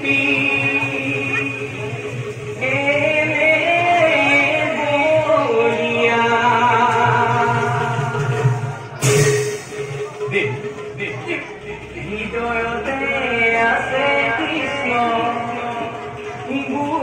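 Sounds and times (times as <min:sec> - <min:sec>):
devotional singing: 0:00.0 - 0:09.2, 0:11.9 - 0:17.0
background music: 0:00.0 - 0:17.0.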